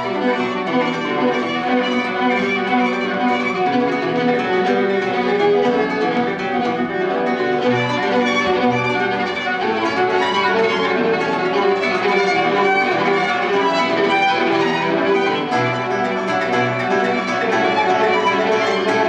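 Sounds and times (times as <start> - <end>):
bowed violin melody: 0.0 - 19.0
classical guitar accompaniment: 0.0 - 19.0.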